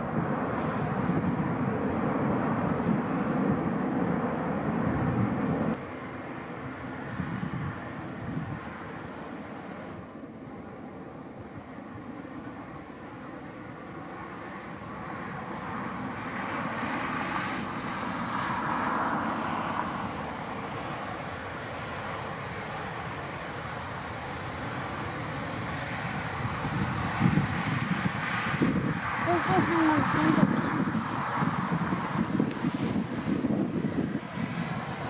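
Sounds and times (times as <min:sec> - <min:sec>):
jet engine noise: 0:00.0 - 0:35.0.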